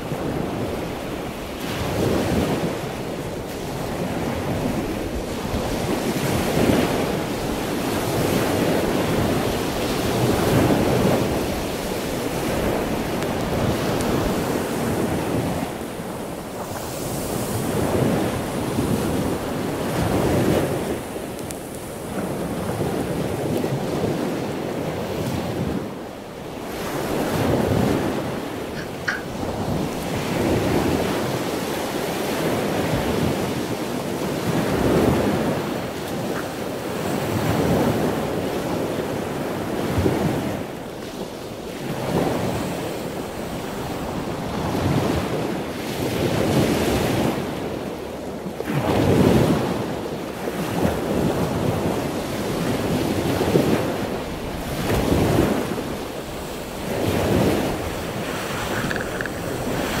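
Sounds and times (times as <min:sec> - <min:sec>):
wind buffeting microphone: 0:00.0 - 0:47.9, 0:48.6 - 1:00.0
waves breaking: 0:00.0 - 1:00.0.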